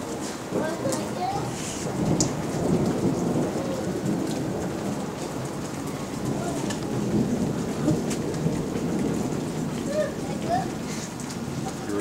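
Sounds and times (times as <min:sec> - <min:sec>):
rain falling: 0:00.0 - 0:12.0
thunder rumbling: 0:00.0 - 0:12.0.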